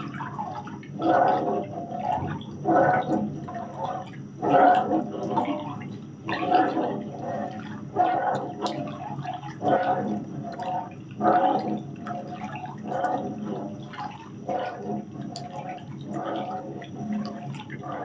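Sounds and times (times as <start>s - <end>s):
liquid sloshing in pan: 0.0s - 18.0s.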